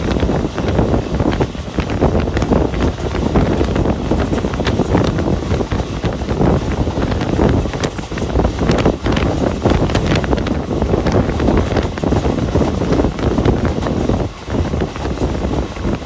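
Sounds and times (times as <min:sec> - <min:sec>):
moving train rumble: 0:00.0 - 0:16.0
wind buffeting microphone: 0:00.0 - 0:16.0.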